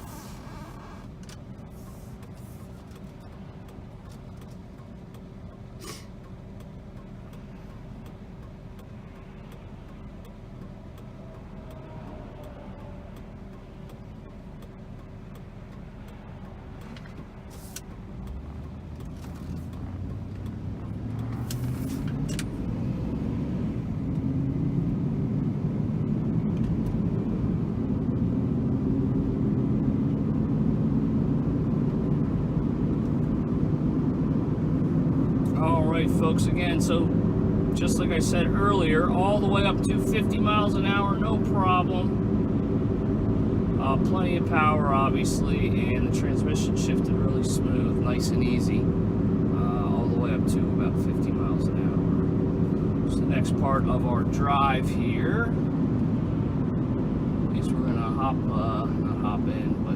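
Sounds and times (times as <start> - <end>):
truck engine accelerating: 0.0 - 59.9.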